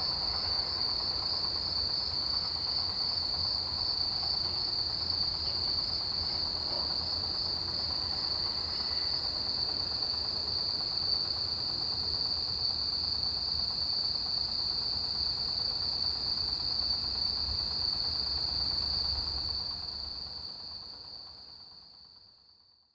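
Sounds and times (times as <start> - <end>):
crickets chirring: 0.0 - 22.5.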